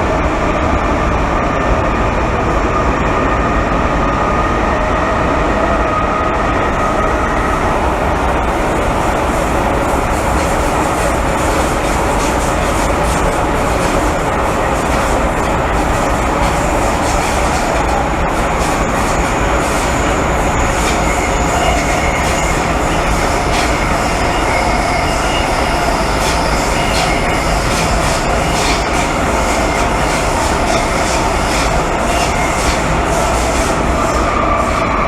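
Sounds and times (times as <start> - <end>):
subway wheels rumbling: 0.0 - 35.0.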